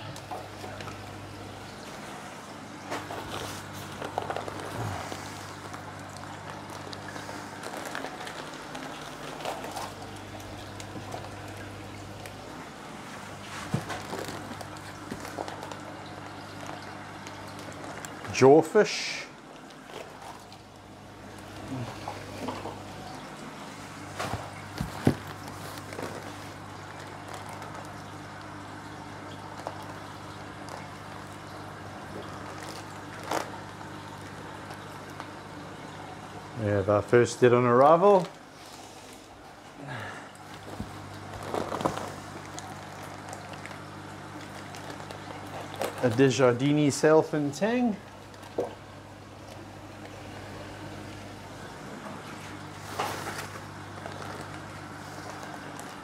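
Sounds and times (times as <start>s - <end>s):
plastic rustling: 0.0s - 18.5s, 19.4s - 35.7s, 40.3s - 56.0s
aquarium equipment hum: 0.0s - 56.0s
water trickling: 0.0s - 56.0s.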